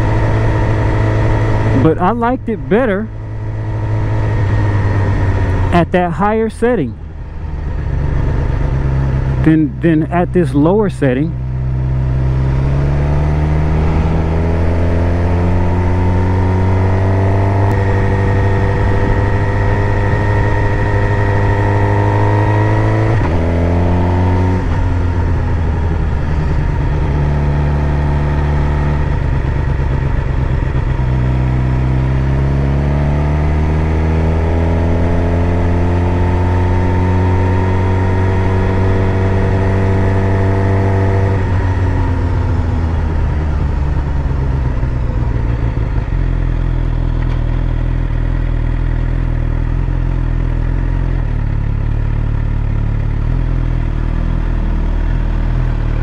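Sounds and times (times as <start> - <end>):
motorcycle engine revving: 0.0 - 5.8, 11.4 - 56.0.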